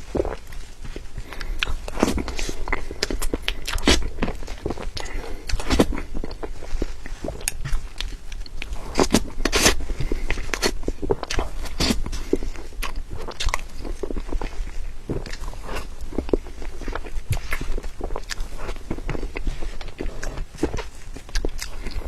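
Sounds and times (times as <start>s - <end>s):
wet chewing and smacking: 0.0s - 22.0s.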